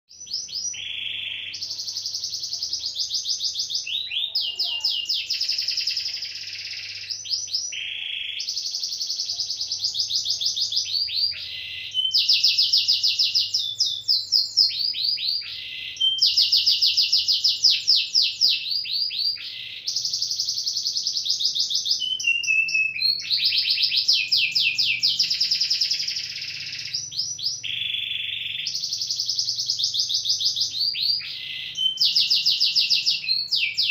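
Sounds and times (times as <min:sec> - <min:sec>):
canary singing trills: 0:00.1 - 0:33.9.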